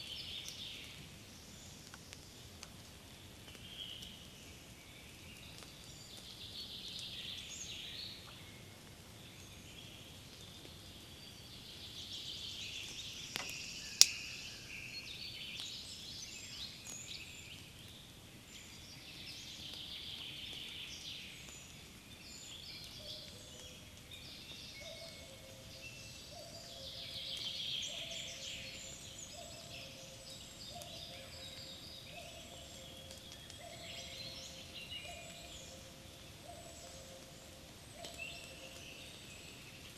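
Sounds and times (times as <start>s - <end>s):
woodland birds singing: 0.0s - 39.9s.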